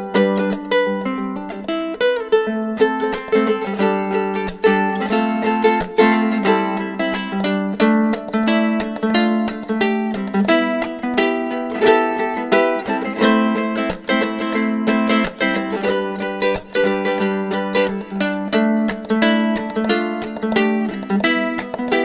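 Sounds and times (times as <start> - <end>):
plucked string instrument tune: 0.0 - 22.0.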